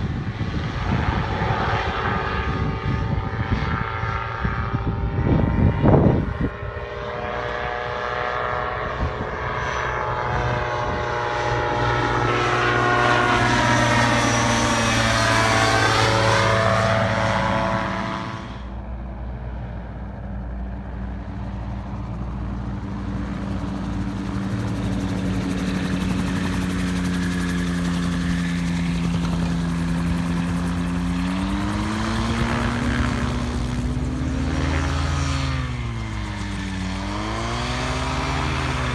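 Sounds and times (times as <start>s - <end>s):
gyroplane engine and propeller passing: 0.0s - 38.9s.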